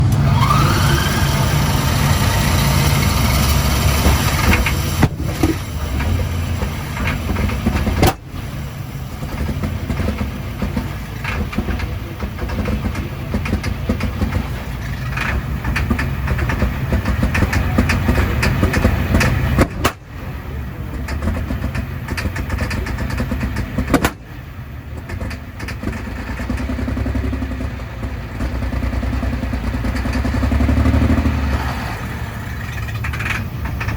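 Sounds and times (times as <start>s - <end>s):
diesel tractor engine cranking and firing: 0.0s - 33.9s.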